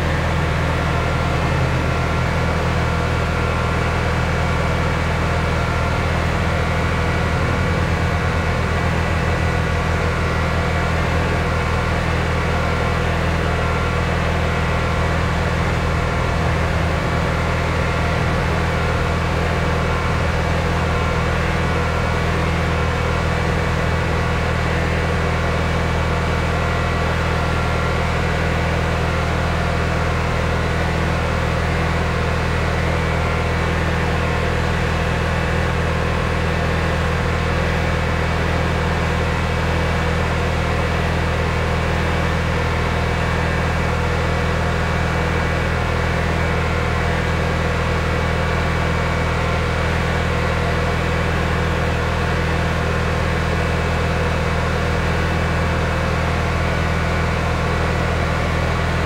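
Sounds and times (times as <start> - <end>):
pressure washer engine running: 0.0 - 59.0.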